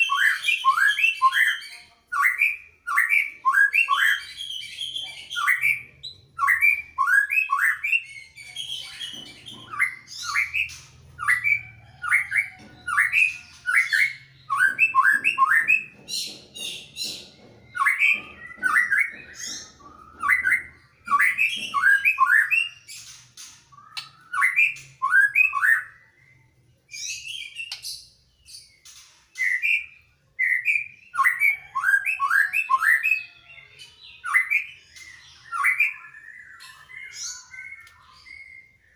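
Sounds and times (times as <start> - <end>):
birds singing whistled notes: 0.0 - 38.9.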